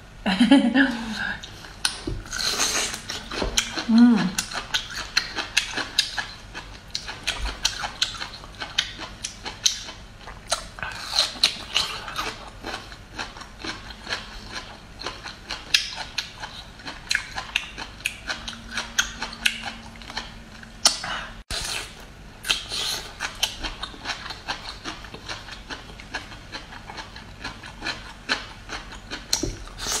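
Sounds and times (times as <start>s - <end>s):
chewing: 1.4s - 30.0s.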